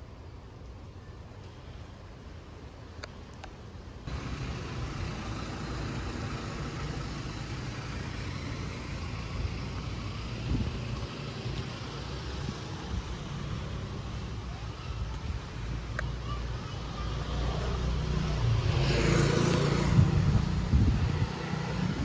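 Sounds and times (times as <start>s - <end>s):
passing cars rumble: 4.0s - 22.0s.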